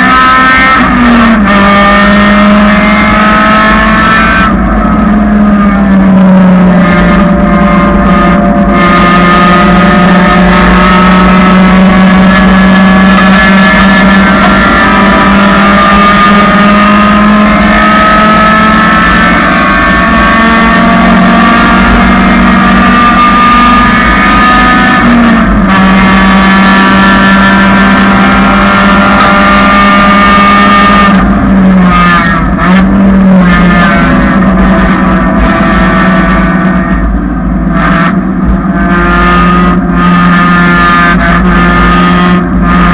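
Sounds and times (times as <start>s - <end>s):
car engine revving under acceleration: 0.0s - 42.9s.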